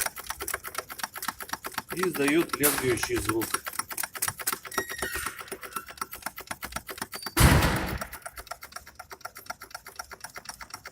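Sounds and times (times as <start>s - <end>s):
rapid even ticking: 0.0s - 10.9s.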